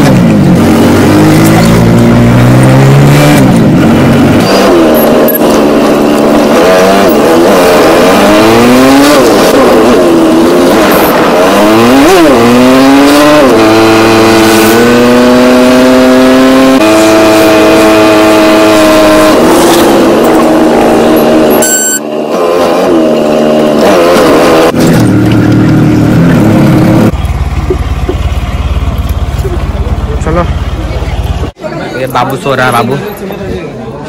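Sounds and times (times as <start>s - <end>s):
car engine accelerating: 0.0s - 31.6s
road noise: 0.0s - 34.0s.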